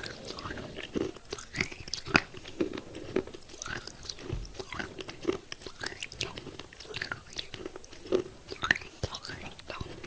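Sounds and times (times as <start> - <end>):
chewing crunchy clay pieces: 0.0 - 10.0.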